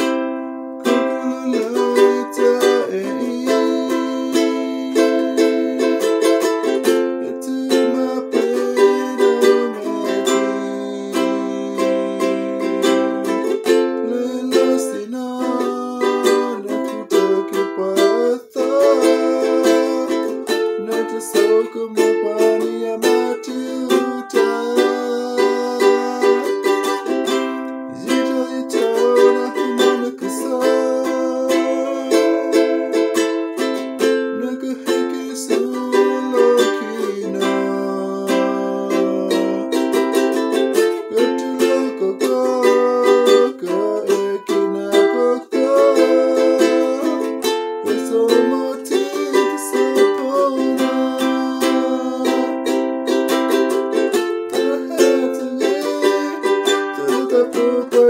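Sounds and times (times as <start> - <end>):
ukulele strummed: 0.0 - 58.0.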